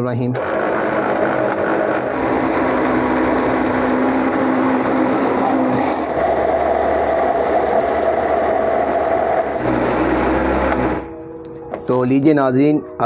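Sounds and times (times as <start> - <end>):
electric blender motor running: 0.4 - 11.1.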